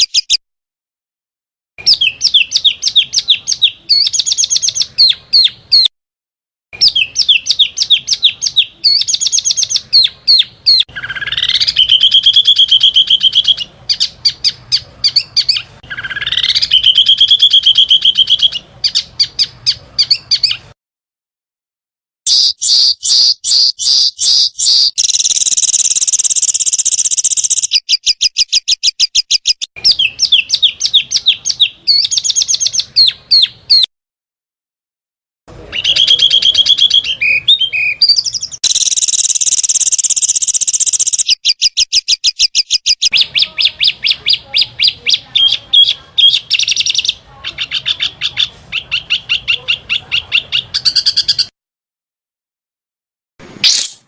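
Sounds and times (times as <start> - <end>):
songbirds chirping and trilling: 1.8 - 5.9, 6.8 - 20.8, 22.3 - 33.9, 35.5 - 51.5.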